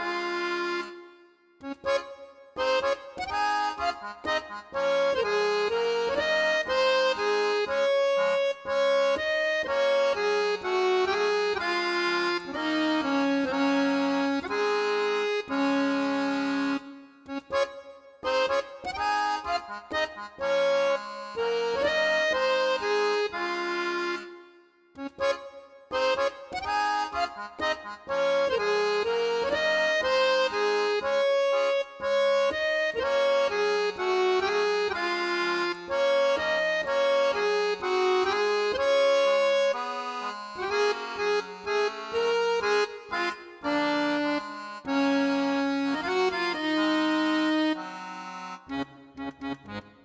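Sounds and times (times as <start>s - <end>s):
cheerful accordion tune: 0.0s - 50.0s.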